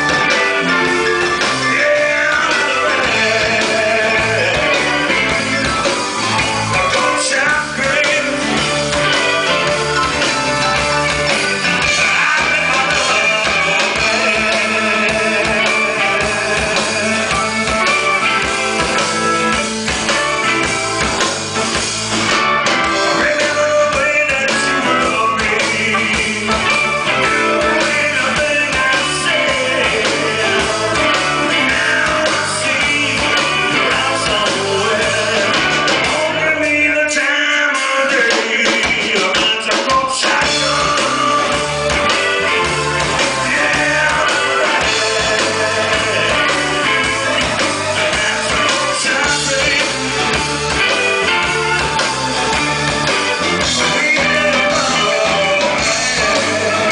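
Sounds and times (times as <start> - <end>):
person singing: 0.0 - 21.3, 22.6 - 56.9
live rock band playing: 0.0 - 56.9.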